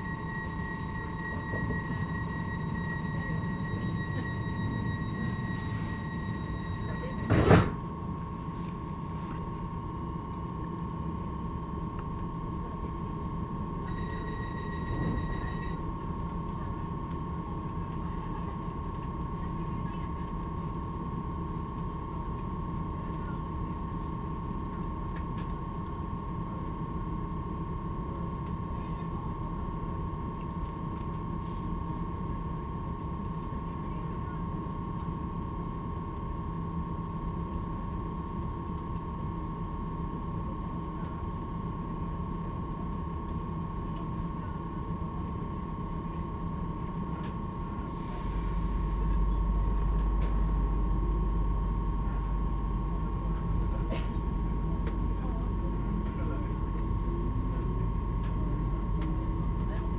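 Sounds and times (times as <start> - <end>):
electrical equipment whine and hum: 0.0 - 59.9.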